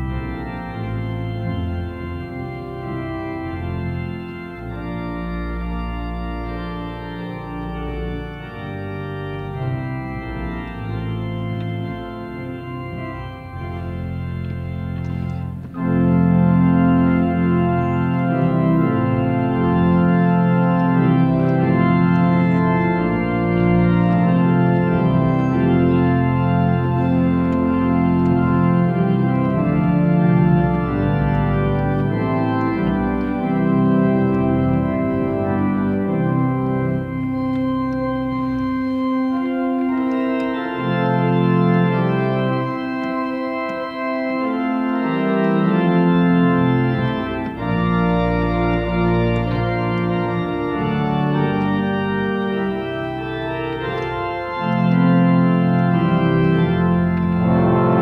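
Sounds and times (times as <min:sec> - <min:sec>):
deep organ pedal bass: 0:00.0 - 0:58.0
pipe organ playing sustained chords: 0:00.0 - 0:58.0.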